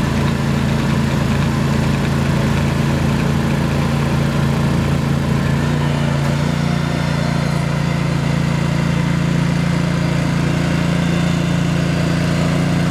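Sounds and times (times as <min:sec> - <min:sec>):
aerator engine running: 0:00.0 - 0:12.9.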